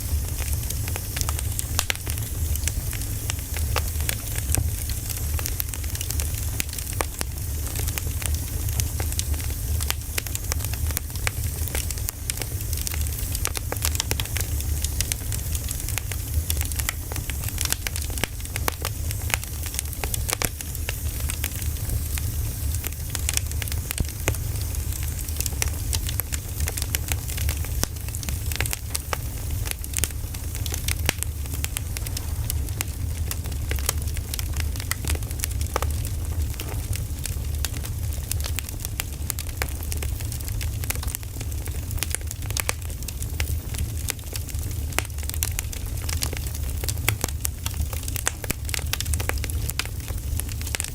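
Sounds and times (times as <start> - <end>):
low fire rumble: 0.0 - 50.9
wood fire crackling and popping: 0.0 - 50.9.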